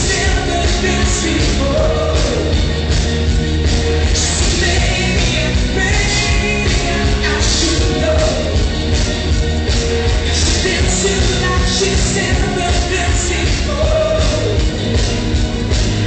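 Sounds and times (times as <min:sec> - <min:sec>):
heavy bass: 0:00.0 - 0:16.0
loud rock music with singer: 0:00.0 - 0:16.0.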